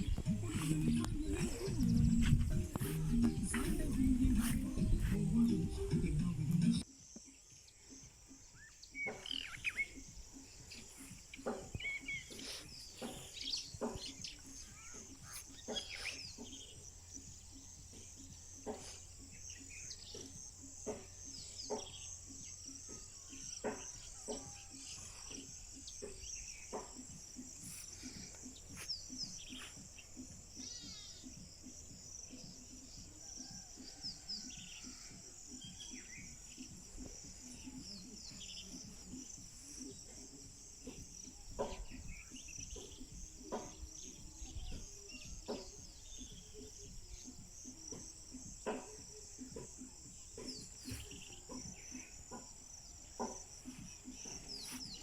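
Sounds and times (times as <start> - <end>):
insects chirring: 0.0 - 55.0
bird chirps: 6.6 - 55.0.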